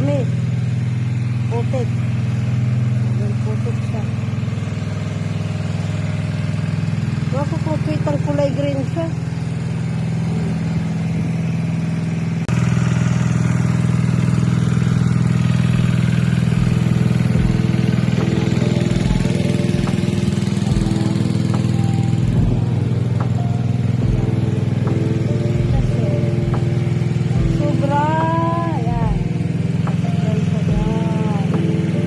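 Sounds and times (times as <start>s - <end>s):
small gasoline pump engine running: 0.0s - 32.0s.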